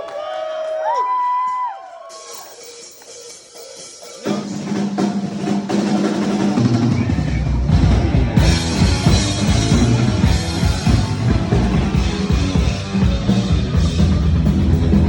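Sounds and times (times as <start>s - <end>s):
fast rock drum solo: 2.1s - 15.0s.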